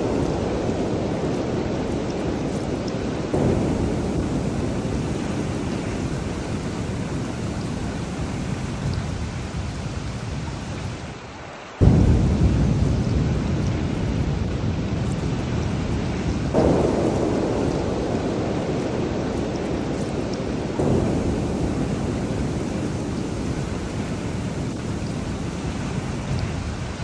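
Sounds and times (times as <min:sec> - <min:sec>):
low rolling thunder: 0:00.0 - 0:11.0, 0:11.8 - 0:27.0
thunderclap: 0:00.0 - 0:11.0, 0:11.8 - 0:27.0
heavy rain: 0:00.0 - 0:27.0.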